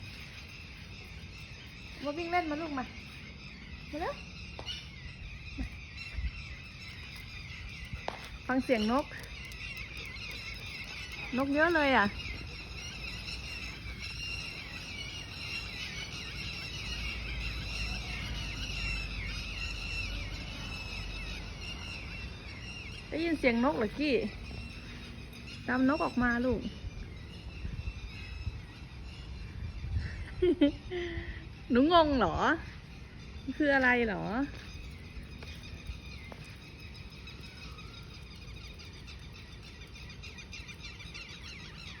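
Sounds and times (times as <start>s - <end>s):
birds chirping in chorus: 0.0s - 42.0s.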